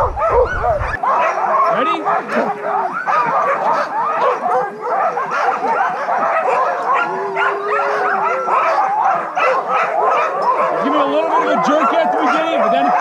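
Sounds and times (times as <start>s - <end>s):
dog long held call: 0.0s - 13.0s
dogs barking and yelping: 0.0s - 13.0s.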